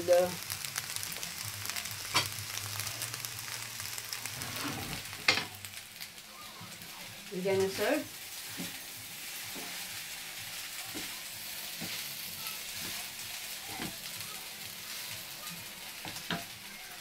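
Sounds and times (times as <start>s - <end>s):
fried rice sizzling in a frying pan: 0.0s - 17.0s.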